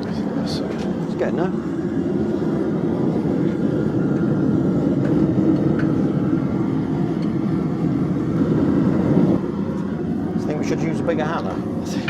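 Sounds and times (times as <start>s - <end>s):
forge low rushing noise: 0.0s - 12.0s.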